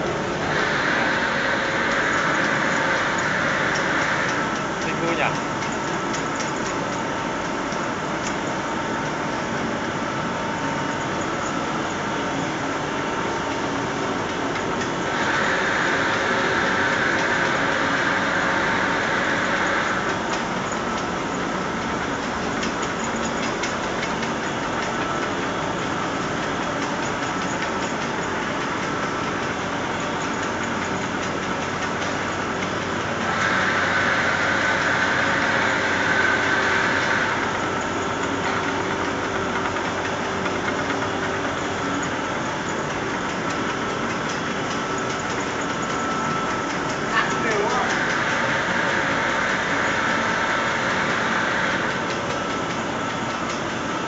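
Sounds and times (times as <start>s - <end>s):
machinery clatter of rollers: 0.0s - 8.6s, 13.4s - 54.0s.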